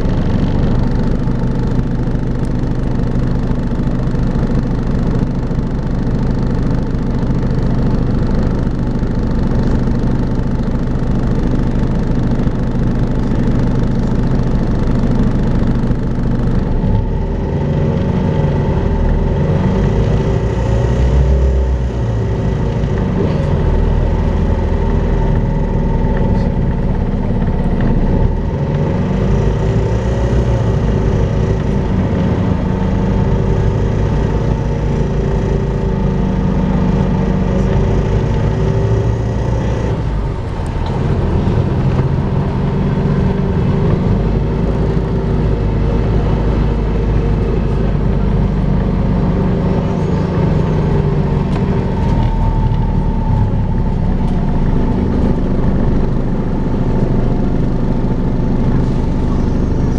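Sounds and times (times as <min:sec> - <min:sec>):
bus engine: 0:00.0 - 0:59.9
steady high whine: 0:00.0 - 0:59.9.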